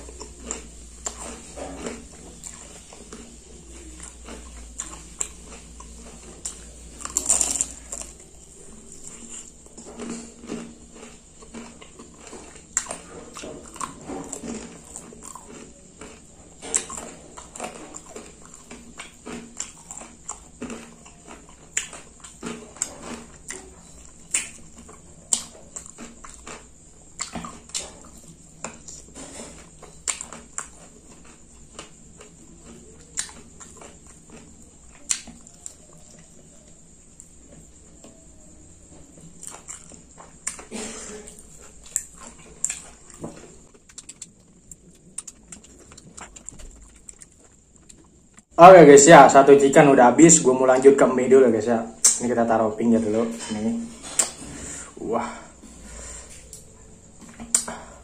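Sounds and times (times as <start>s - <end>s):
wet chewing and lip smacking: 0.0s - 38.1s, 39.1s - 40.7s, 41.3s - 48.5s, 56.4s - 57.9s.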